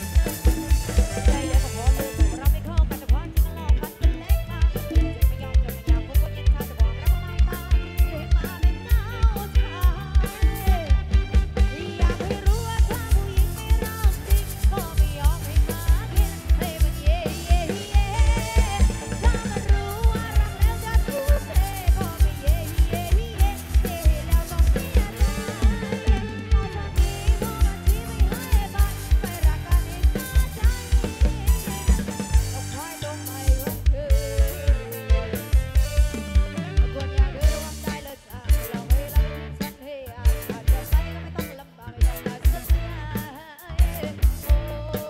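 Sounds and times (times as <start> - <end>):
electric bass: 0.0 - 45.0
live band dance music: 0.0 - 45.0
woman singing: 0.0 - 45.0.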